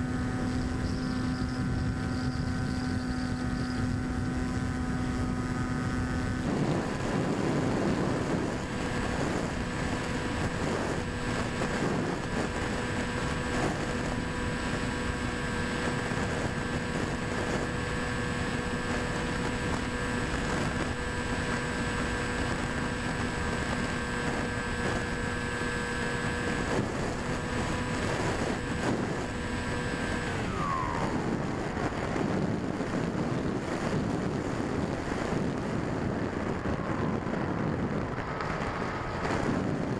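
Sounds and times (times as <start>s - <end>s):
electric motor and propeller whine: 0.0s - 39.9s
rushing wind noise: 0.0s - 39.9s.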